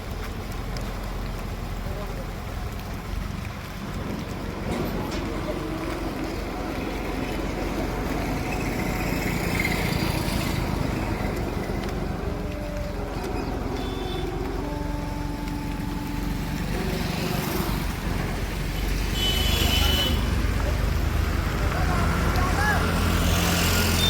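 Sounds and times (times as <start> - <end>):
heavy engine running: 0.0 - 24.0.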